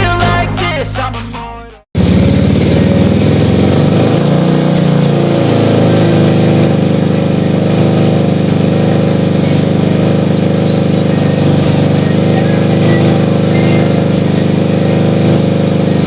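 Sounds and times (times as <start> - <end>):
motorcycle engine idling: 2.0 - 16.0.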